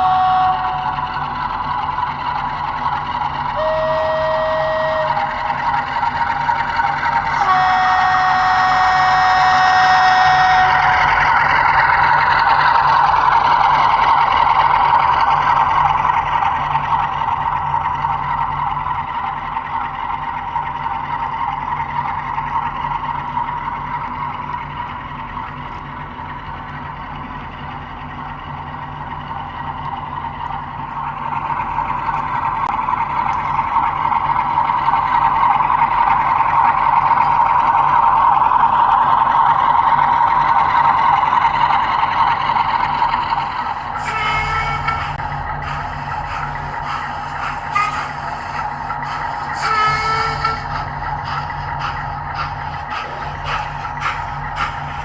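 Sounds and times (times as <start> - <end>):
model train rolling on track: 0.0 - 55.0.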